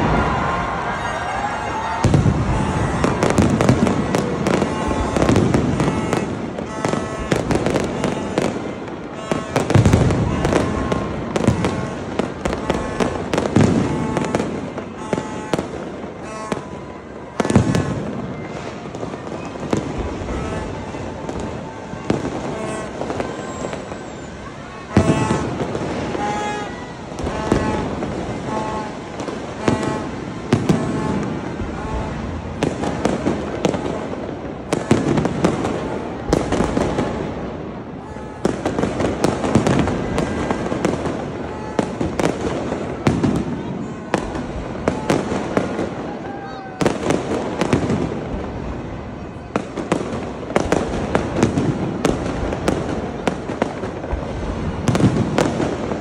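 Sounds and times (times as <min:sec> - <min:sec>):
fireworks bangs and crackling: 0:00.0 - 0:56.0
loud fireworks booms: 0:00.0 - 0:56.0.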